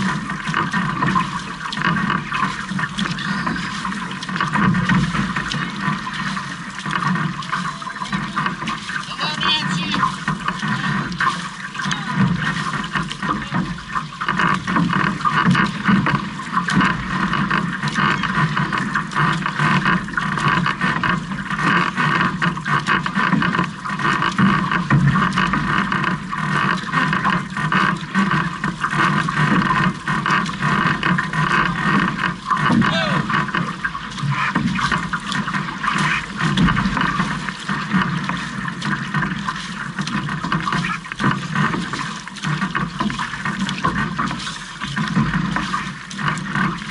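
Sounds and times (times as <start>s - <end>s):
paddles splashing: 0.0s - 46.9s
water rushing along canoe hull: 0.0s - 46.9s.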